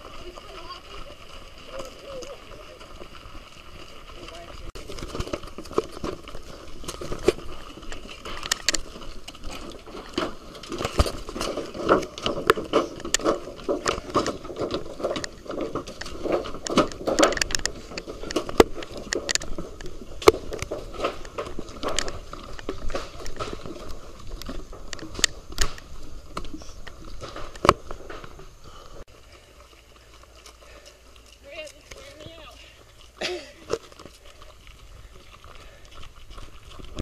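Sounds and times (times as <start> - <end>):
footsteps on rubber tires: 0.0 - 37.0.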